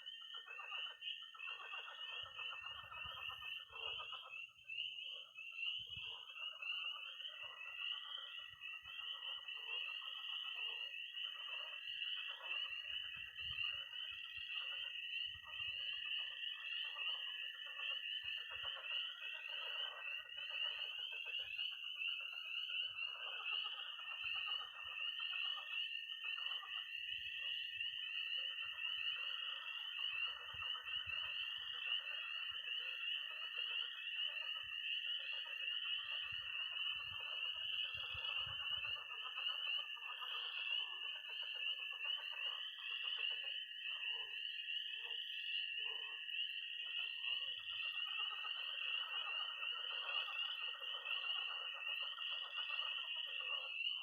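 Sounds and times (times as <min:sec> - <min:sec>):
frogs croaking: 0:00.0 - 0:54.0
spring peepers peeping: 0:00.0 - 0:54.0
toads trilling: 0:00.0 - 0:54.0.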